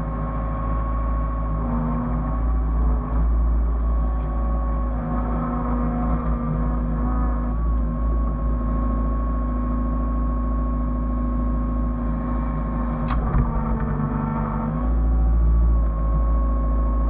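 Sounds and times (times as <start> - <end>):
diesel engine running: 0.0 - 17.0
engine whine: 0.0 - 17.0.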